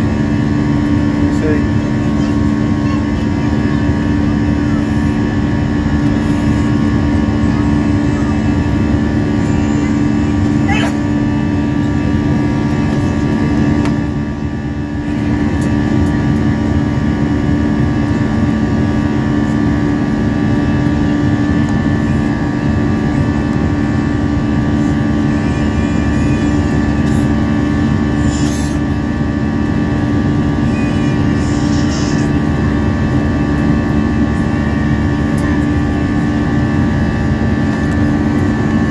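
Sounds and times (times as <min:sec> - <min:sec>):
jet engine drone in cabin: 0:00.0 - 0:38.9.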